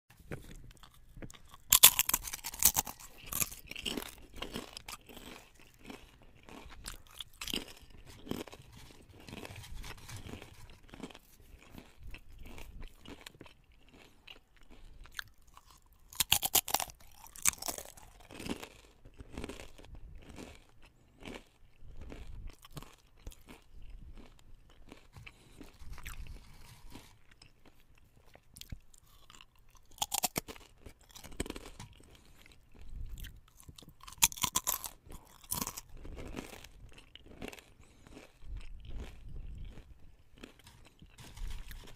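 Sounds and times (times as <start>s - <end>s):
potato chips crunching: 0.1s - 41.9s.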